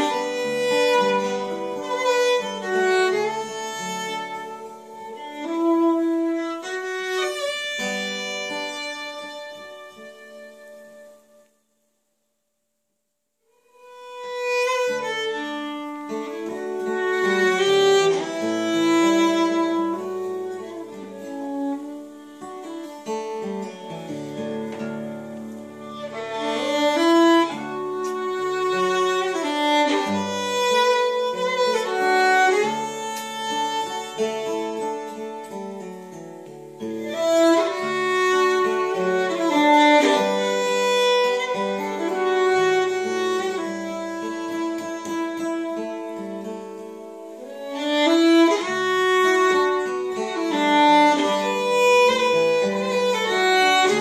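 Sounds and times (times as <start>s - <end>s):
fiddle playing slow melody: 0.0s - 11.6s, 13.5s - 54.0s
acoustic guitar accompaniment: 0.0s - 12.0s, 13.4s - 54.0s.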